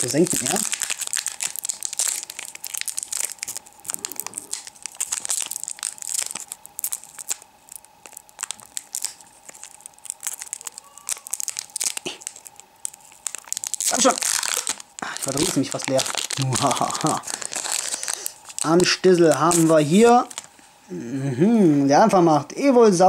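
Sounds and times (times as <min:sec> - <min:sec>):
foil wrapper crinkling and tearing: 0:00.0 - 0:20.5.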